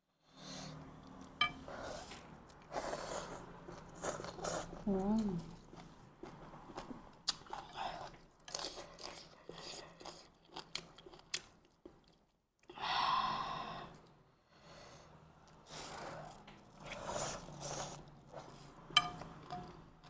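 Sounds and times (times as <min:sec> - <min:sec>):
person chewing noodle soup: 0:00.8 - 0:12.7, 0:15.4 - 0:20.0.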